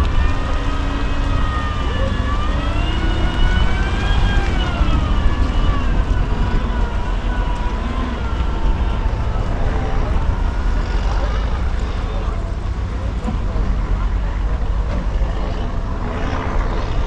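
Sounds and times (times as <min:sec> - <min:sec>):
heavy low rumble: 0:00.0 - 0:17.0.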